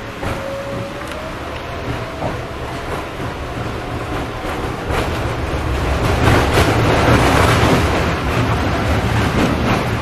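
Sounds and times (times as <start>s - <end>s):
tram wheels and motors rumbling: 0.0s - 10.0s.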